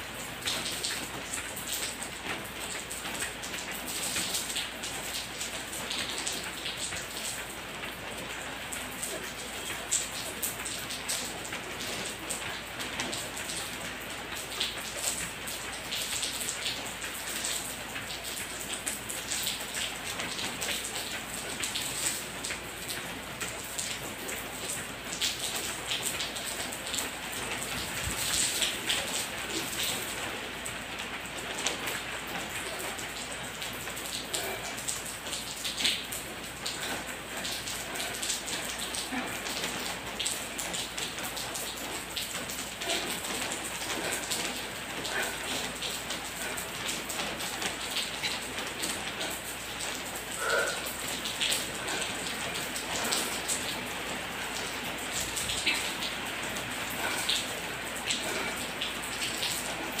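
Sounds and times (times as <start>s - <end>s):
rain pattering: 0.0s - 60.0s.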